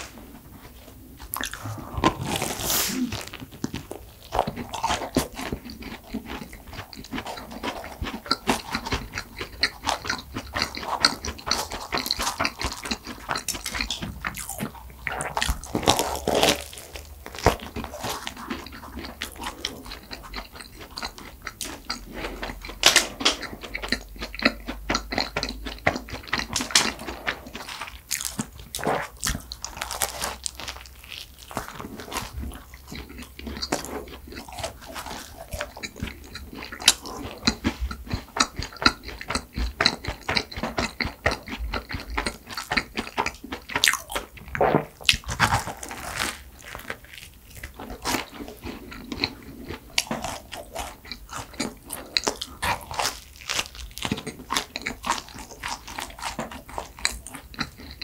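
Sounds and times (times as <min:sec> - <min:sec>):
crunching bread crust: 0:00.0 - 0:58.0
wet mouth sounds: 0:00.0 - 0:58.0.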